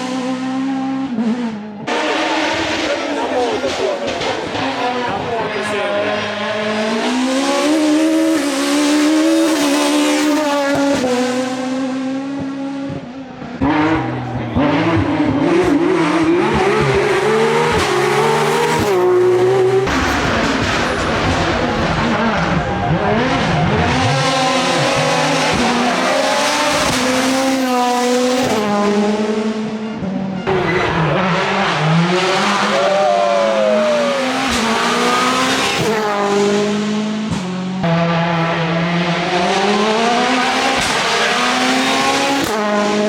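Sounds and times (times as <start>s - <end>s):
rally car engine at high revs: 0.0s - 43.0s.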